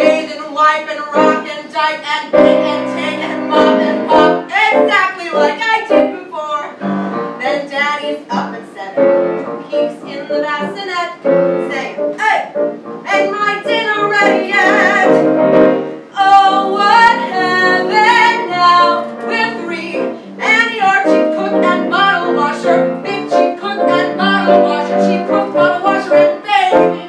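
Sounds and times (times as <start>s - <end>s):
woman singing with vibrato: 0.0s - 27.0s
instrumental accompaniment: 2.3s - 27.0s.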